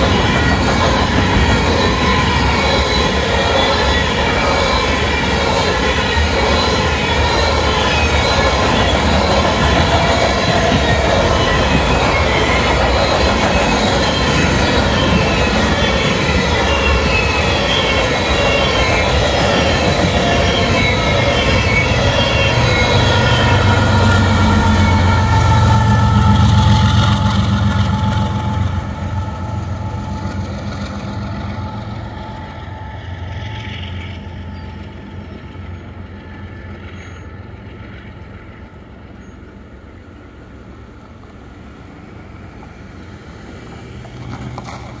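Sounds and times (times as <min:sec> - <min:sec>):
thin wheel squeal: 0:00.0 - 0:38.0
locomotive engine drone: 0:00.0 - 0:45.0.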